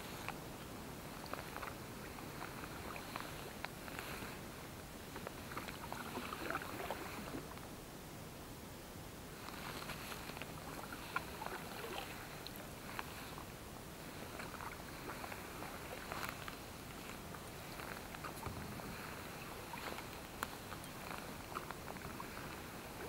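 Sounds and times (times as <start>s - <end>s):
paddle splashing water: 0.0s - 7.6s, 9.4s - 23.0s.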